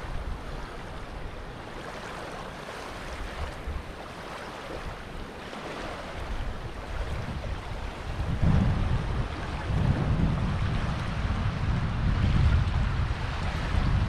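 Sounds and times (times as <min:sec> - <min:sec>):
water rushing: 0:00.0 - 0:14.0
wind buffeting microphone: 0:00.0 - 0:14.0.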